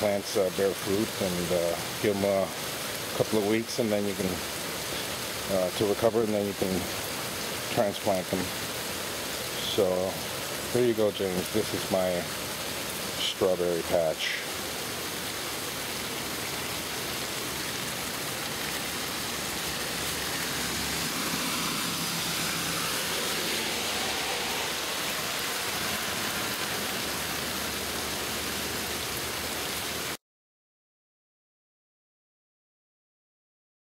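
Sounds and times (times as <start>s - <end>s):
steady rain falling: 0.0s - 30.2s.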